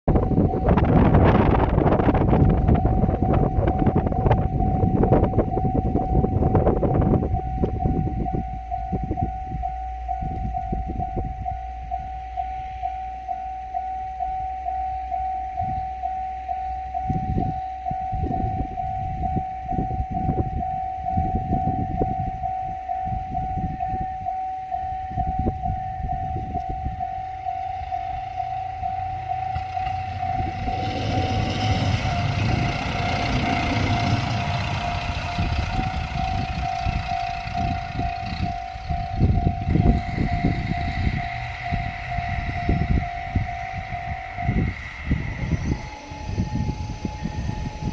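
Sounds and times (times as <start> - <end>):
diesel railcar rumbling: 0.0 - 47.9
wind noise on microphone: 0.0 - 47.9
level-crossing warning bell: 0.1 - 47.9.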